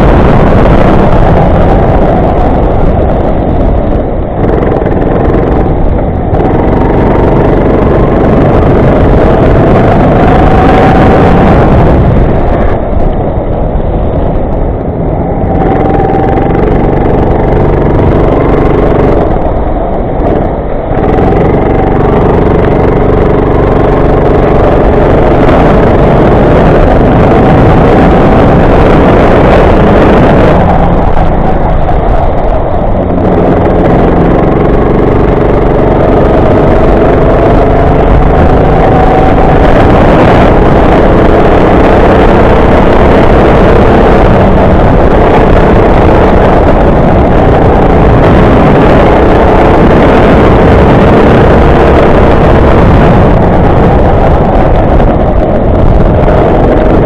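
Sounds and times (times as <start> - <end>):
go-kart engine revving: 0.0 - 12.6, 15.0 - 57.0.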